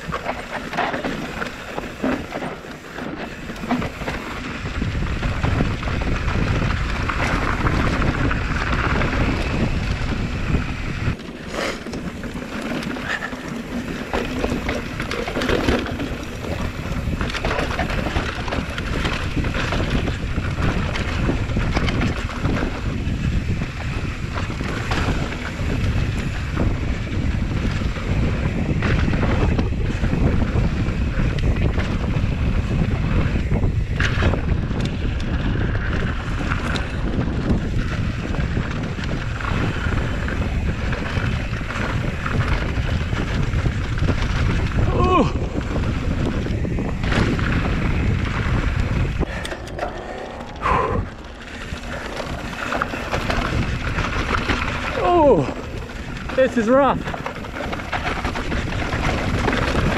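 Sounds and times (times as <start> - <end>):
mountain bike rumbling and rattling: 0.0 - 59.9
wind buffeting microphone: 0.0 - 59.9.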